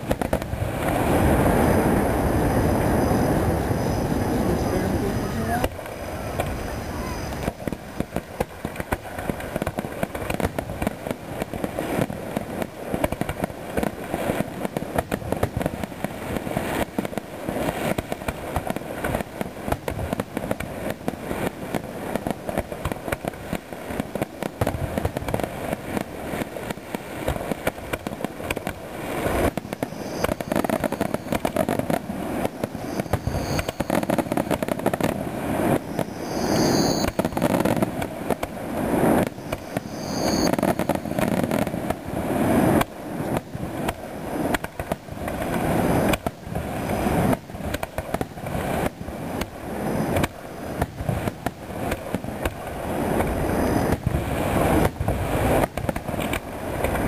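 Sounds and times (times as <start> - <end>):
fireworks bursting and crackling: 0.0 - 57.0
fireworks whistling: 0.0 - 57.0.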